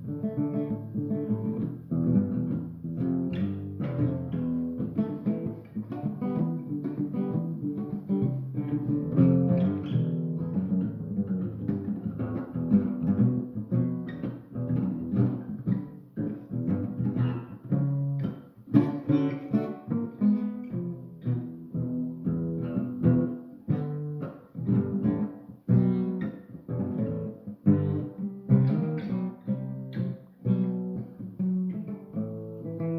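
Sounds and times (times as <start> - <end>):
guitar plucked notes: 0.0 - 32.9.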